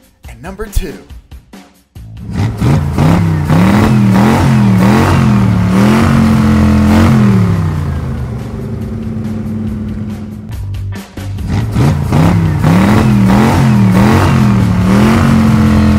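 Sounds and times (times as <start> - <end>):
truck engine revving: 2.1 - 10.6, 11.3 - 15.9.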